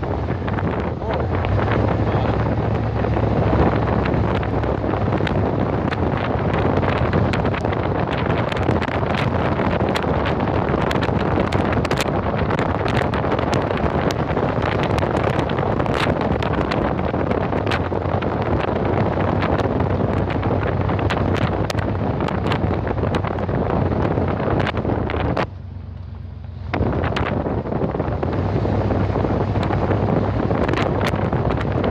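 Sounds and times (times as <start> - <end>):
low engine drone: 0.0 - 31.9
tyres on wet road: 0.0 - 31.9.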